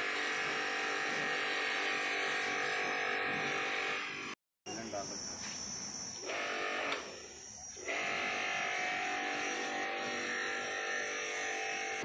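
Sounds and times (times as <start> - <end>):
pressure washer motor buzzing: 0.0 - 4.3, 6.2 - 7.2, 7.8 - 12.0.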